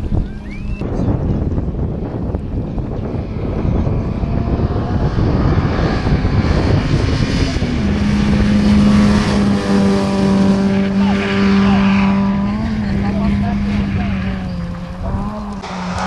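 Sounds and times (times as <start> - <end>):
rally car engine running hard: 0.0 - 16.0.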